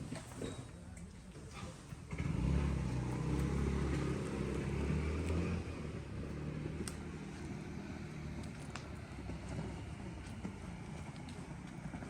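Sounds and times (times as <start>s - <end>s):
vehicle engine running: 2.0s - 12.0s.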